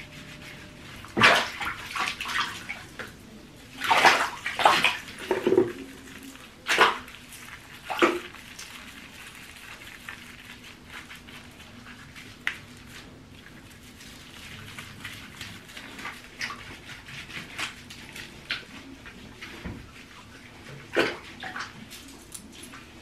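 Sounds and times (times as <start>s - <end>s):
water splashing in bathtub: 0.0s - 23.0s.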